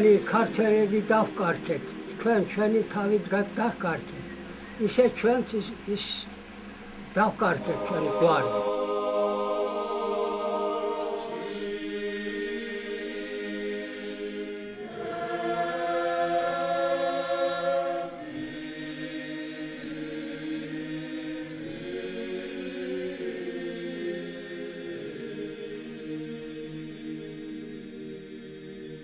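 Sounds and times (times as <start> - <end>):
slow choral singing: 0.0 - 29.0.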